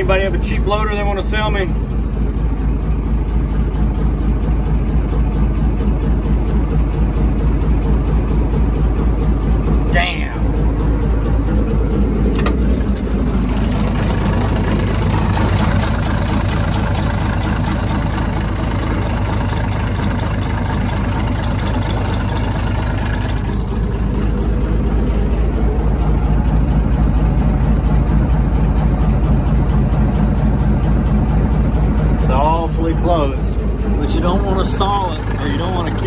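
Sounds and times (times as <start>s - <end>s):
diesel engine with rod knock: 0.0s - 36.0s.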